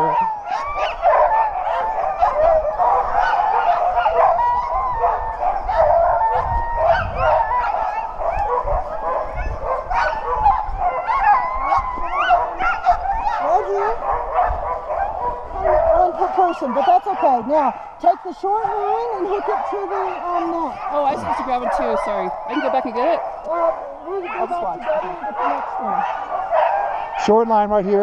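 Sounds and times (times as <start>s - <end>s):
sled dogs yelping and howling: 0.0s - 28.0s.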